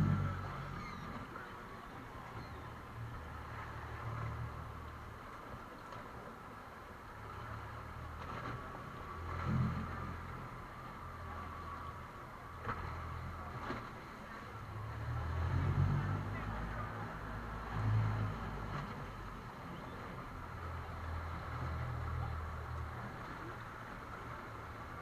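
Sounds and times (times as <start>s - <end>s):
outboard motors rumbling: 0.0s - 25.0s.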